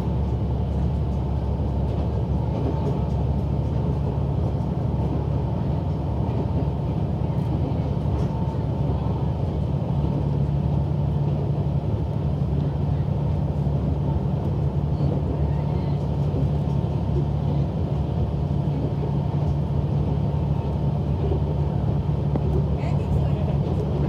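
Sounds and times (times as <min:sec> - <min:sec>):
diesel engine drone: 0:00.0 - 0:24.0
rumble of train running gear: 0:00.0 - 0:24.0.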